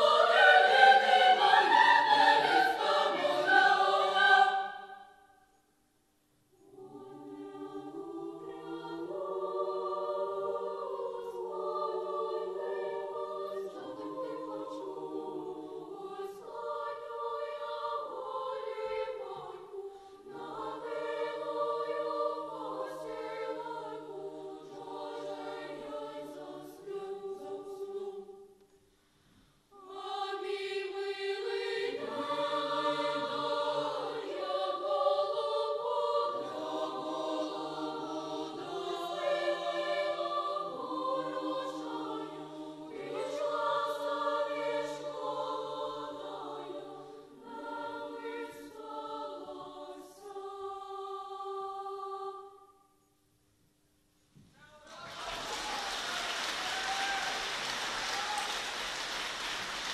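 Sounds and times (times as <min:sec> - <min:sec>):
children's choir singing: 0:00.0 - 0:05.4, 0:06.5 - 0:28.6, 0:29.8 - 0:52.8.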